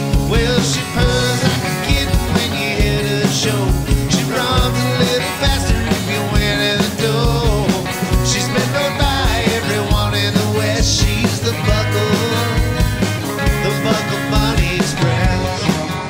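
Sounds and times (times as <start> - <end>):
person singing over band: 0.0 - 16.0
steady drum beat: 0.0 - 16.0.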